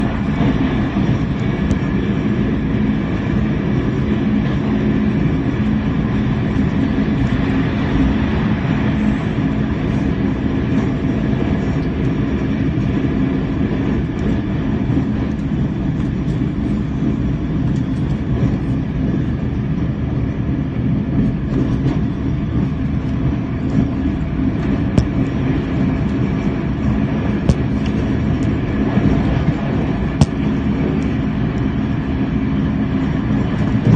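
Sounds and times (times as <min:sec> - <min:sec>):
low hum: 0:00.0 - 0:33.9
train wheels rumbling on rails: 0:00.0 - 0:33.9.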